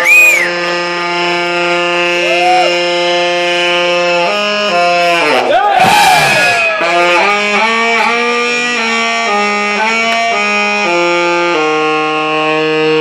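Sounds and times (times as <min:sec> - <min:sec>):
saxophone solo: 0:00.0 - 0:13.0.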